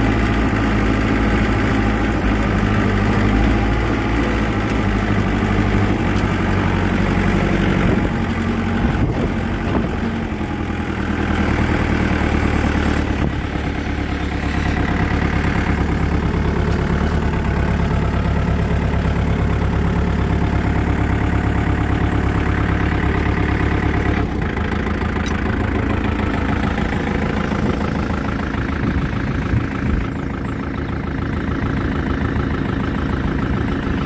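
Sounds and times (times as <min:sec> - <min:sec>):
small tractor engine idling: 0:00.0 - 0:34.0.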